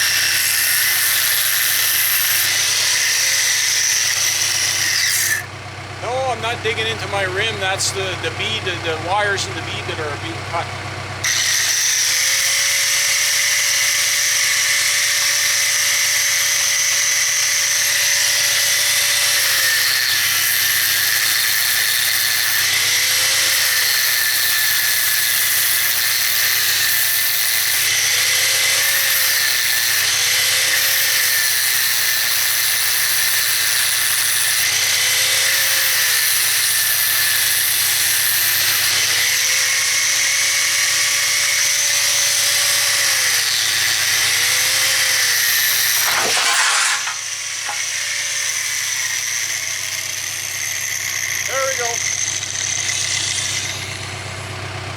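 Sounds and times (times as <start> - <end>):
angle grinder cutting steel wire: 0.0 - 5.5, 6.1 - 54.6.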